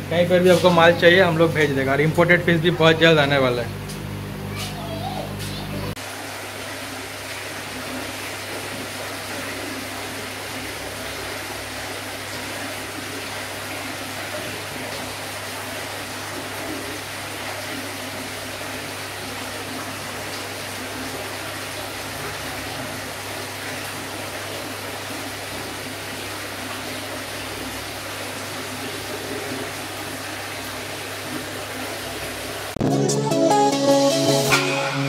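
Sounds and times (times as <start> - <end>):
pump motor humming: 0.0 - 32.8
rushing water in aquarium: 0.0 - 32.8.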